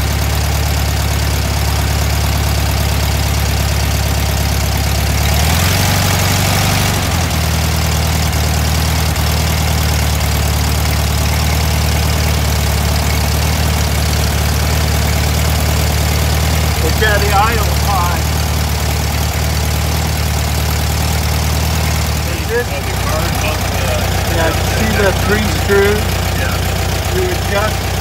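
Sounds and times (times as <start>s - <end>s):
car engine idling high: 0.0s - 28.0s.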